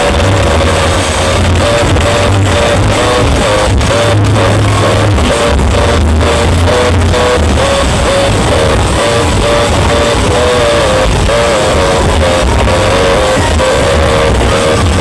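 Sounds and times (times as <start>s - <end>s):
loud dance music with heavy bass: 0.0s - 15.0s.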